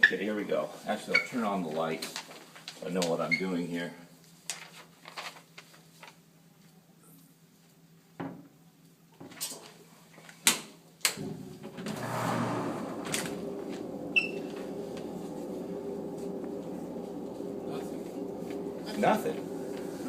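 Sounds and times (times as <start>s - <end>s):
ventilation fan humming: 0.0s - 20.0s.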